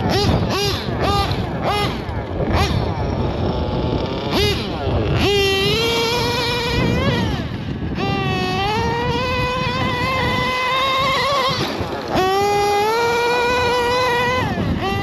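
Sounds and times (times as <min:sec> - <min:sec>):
nitro engine revving: 0:00.0 - 0:15.0.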